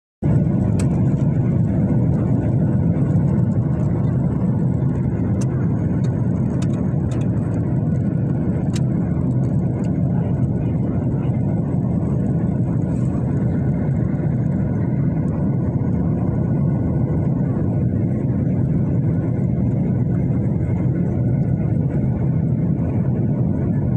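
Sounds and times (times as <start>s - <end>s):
aircraft engine rumble: 0.2s - 23.9s.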